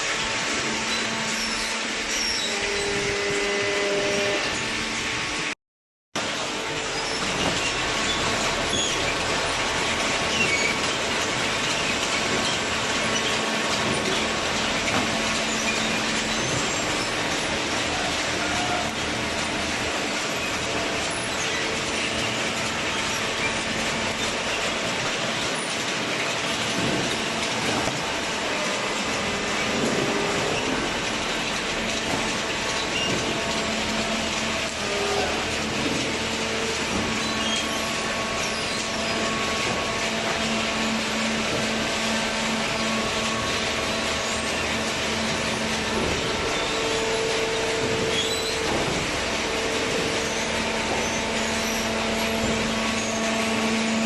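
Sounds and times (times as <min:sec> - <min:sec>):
cardboard shredder running: 0:07.6 - 0:54.0.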